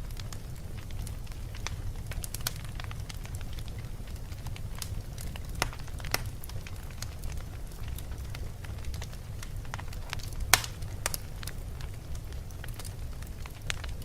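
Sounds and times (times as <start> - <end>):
low rumble of flame: 0.0 - 14.0
wood fire crackling and popping: 0.0 - 14.0.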